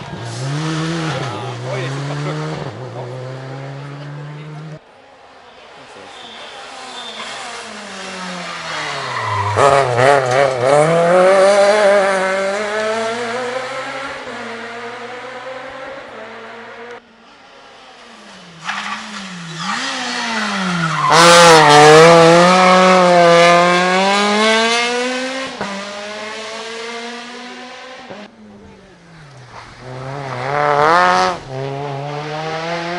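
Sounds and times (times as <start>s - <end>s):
rally cars passing at speed: 0.0s - 32.9s.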